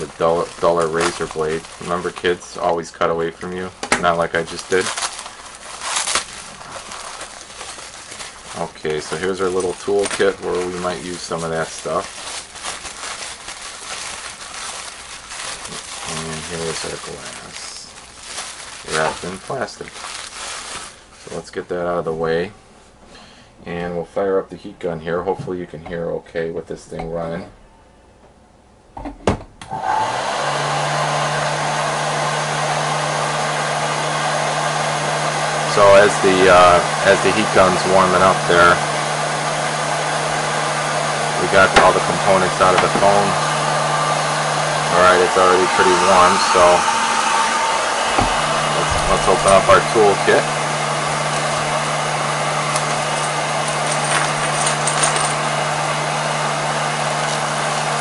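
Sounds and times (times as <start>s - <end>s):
heat gun fan whirring: 0.0s - 21.5s, 29.6s - 58.0s.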